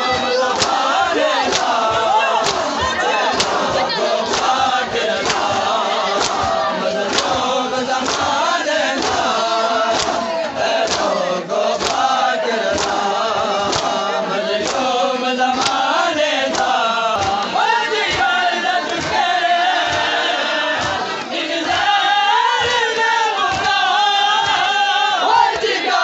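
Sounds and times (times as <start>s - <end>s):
men chanting a lament in unison: 0.0s - 26.0s
chest-beating slaps: 0.1s - 21.9s, 23.4s - 24.7s.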